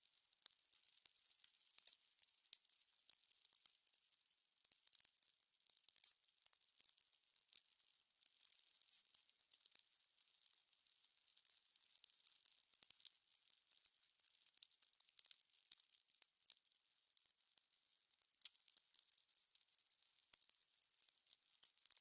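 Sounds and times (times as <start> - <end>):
fire crackling and popping: 0.1 - 22.0.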